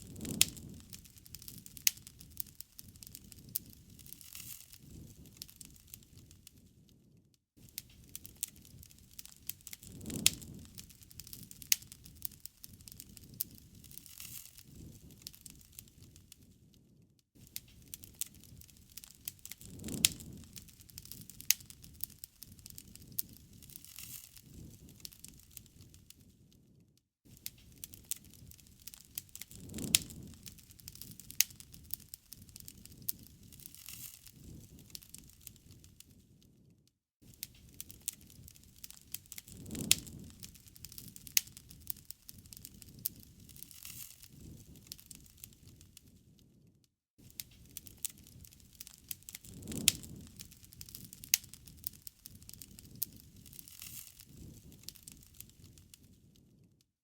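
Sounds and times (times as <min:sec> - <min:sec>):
low rumble of flames: 0:00.0 - 0:56.8
wood fire crackling and popping: 0:00.0 - 0:56.8.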